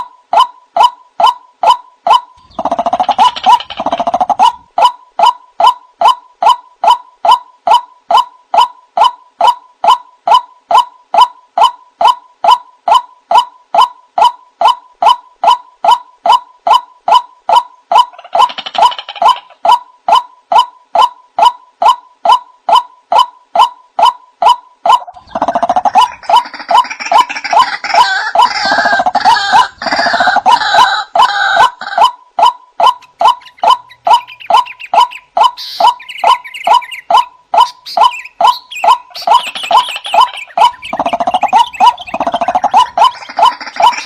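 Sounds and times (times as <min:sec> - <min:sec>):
overlapping bird calls: 0:00.0 - 0:44.0
waterhen calling harsh notes: 0:00.0 - 0:44.0.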